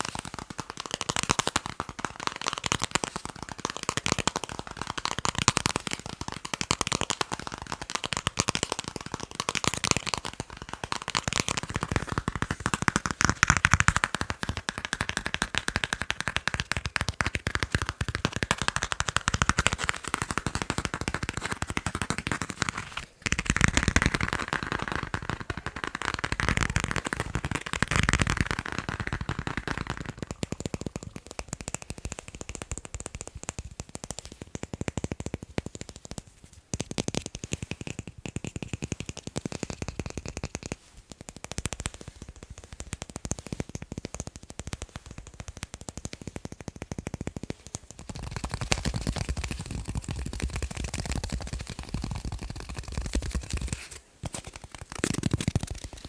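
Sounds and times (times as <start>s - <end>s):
rapid tapping on objects: 0.0s - 56.0s.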